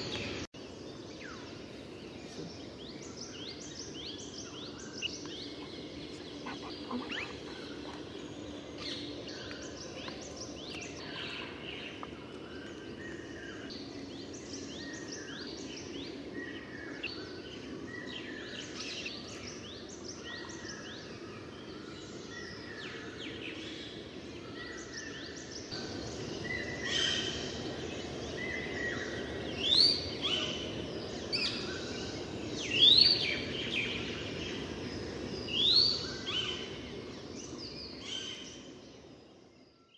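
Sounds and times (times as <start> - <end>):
low background hum: 0.0 - 39.9
wild birds chirping: 0.0 - 39.9.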